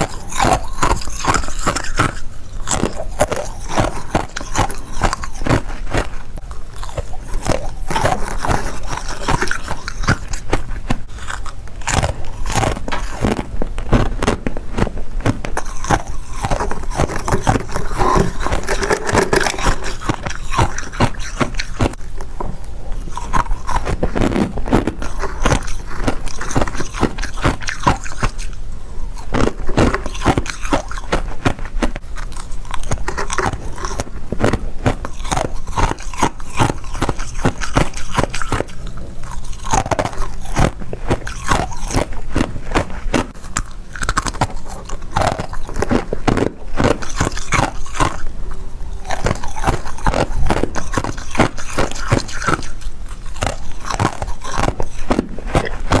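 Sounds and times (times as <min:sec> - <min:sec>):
chewing crunchy frost: 0:00.0 - 0:56.0.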